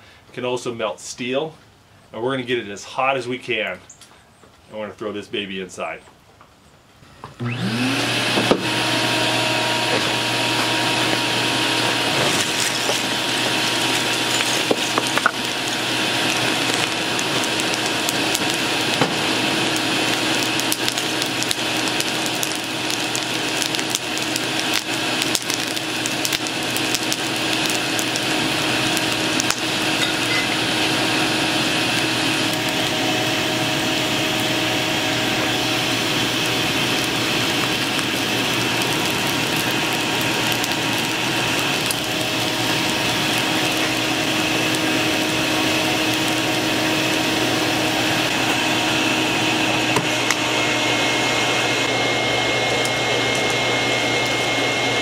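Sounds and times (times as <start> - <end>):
forge blower roaring: 7.0 - 55.0
fire crackling and popping: 7.5 - 55.0.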